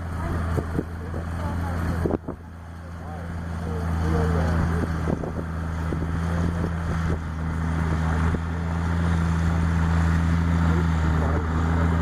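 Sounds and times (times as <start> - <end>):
baler working: 0.0 - 12.0
tractor engine droning: 0.0 - 12.0.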